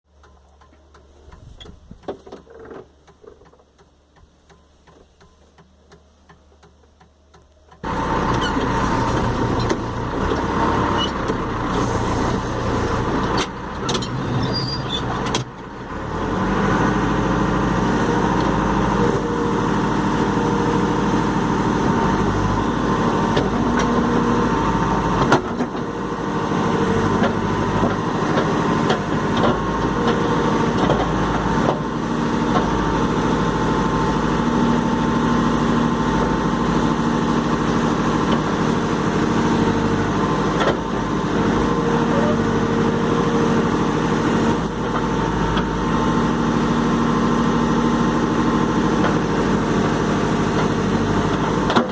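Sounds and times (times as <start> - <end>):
backhoe diesel engine running: 7.6 - 51.9.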